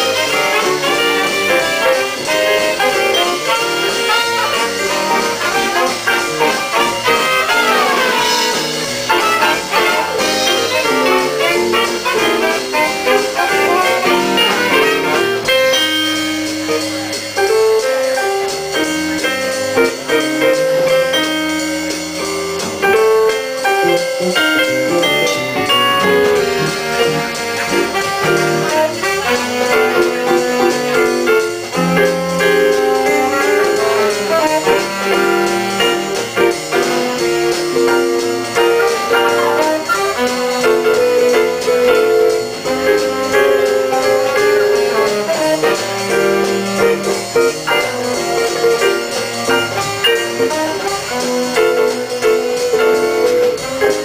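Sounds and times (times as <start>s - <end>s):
swing band playing jazz: 0.0s - 54.0s.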